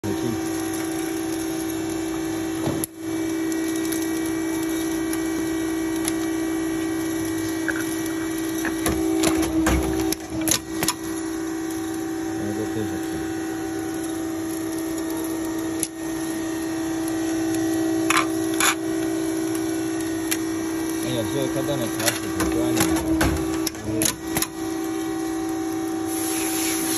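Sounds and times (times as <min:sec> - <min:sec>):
hydraulic power unit hum: 0:00.0 - 0:26.9.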